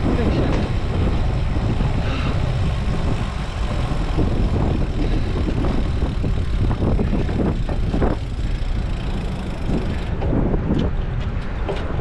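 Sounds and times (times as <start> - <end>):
bike road noise: 0.0 - 12.0
wind rumble on microphone: 0.0 - 12.0.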